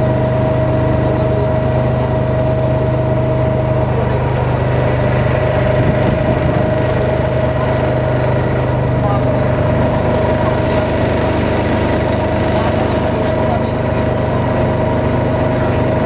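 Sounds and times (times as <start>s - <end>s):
loud boat motor droning: 0.0s - 16.0s.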